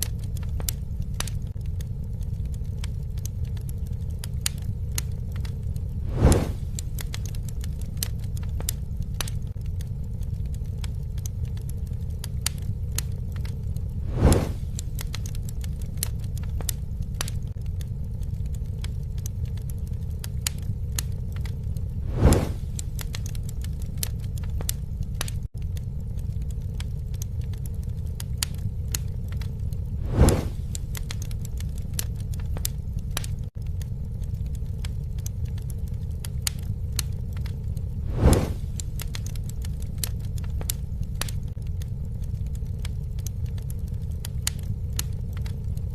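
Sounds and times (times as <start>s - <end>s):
campfire crackling and popping: 0.0s - 45.9s
rush of flame: 0.0s - 45.9s.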